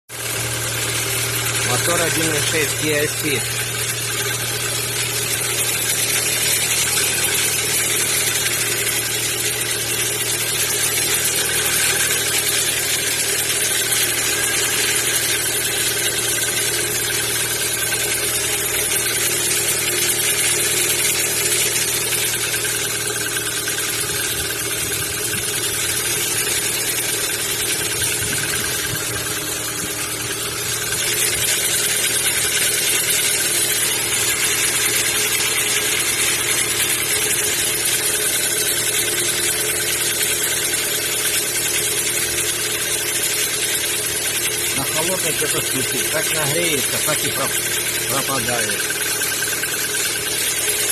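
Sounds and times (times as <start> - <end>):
car engine idling: 0.1 - 50.9
engine knock: 0.1 - 50.9.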